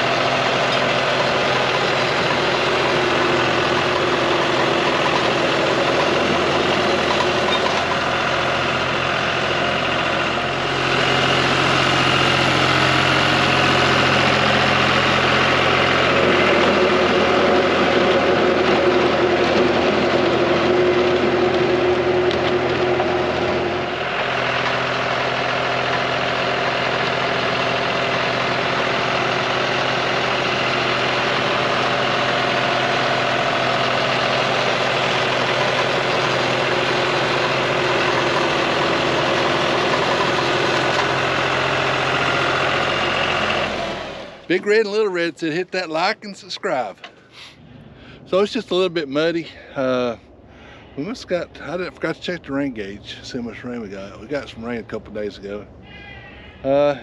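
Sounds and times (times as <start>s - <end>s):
rotary tiller through soil: 0.0s - 47.1s
tractor diesel engine running: 0.0s - 57.0s.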